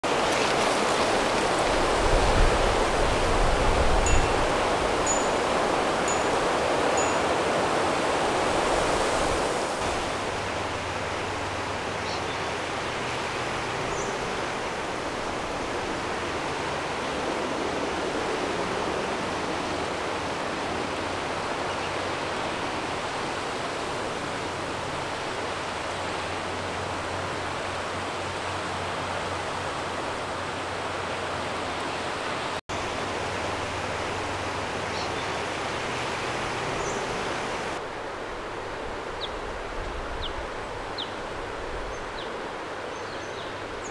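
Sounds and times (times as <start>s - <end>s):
flowing water rushing: 0.0s - 43.9s.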